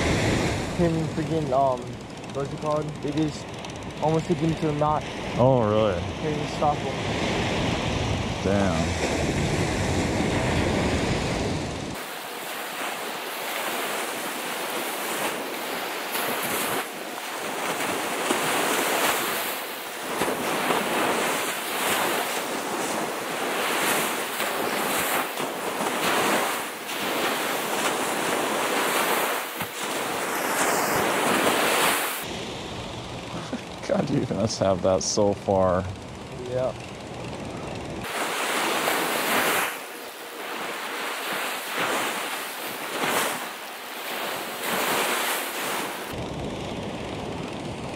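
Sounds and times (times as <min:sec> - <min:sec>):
surf breaking on beach: 0:00.0 - 0:03.4, 0:04.0 - 0:32.6, 0:38.0 - 0:46.3.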